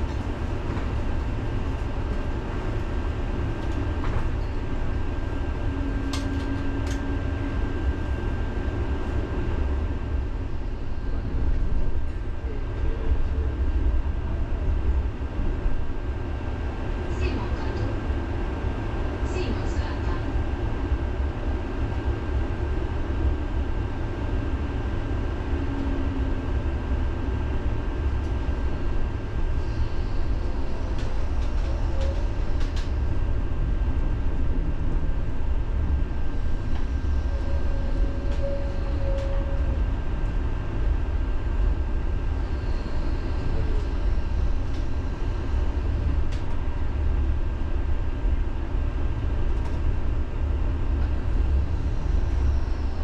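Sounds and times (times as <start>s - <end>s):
tram rumbling on rails: 0.0s - 53.0s.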